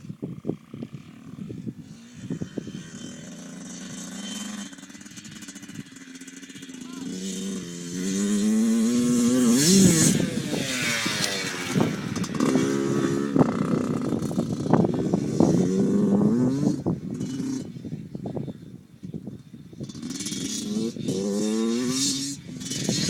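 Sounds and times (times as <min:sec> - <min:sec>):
dirt bike engine accelerating: 0:00.3 - 0:18.1, 0:19.0 - 0:23.0.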